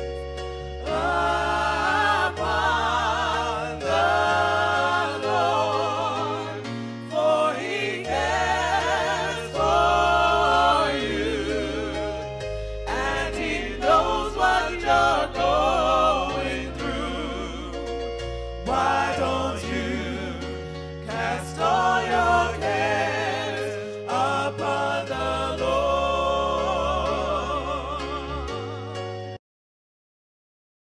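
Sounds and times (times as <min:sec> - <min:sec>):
gospel singing with vibrato: 0:00.0 - 0:29.4.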